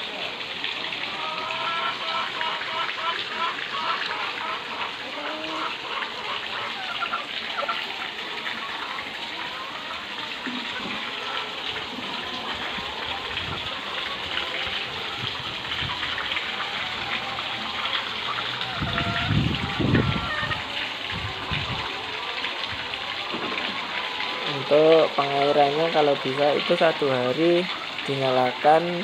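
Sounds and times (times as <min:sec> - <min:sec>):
water rushing and splashing: 0:00.0 - 0:29.0.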